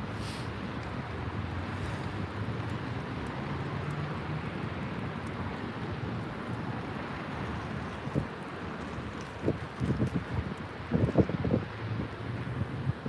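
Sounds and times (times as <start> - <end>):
distant traffic: 0.0 - 13.0
wind: 0.0 - 13.0.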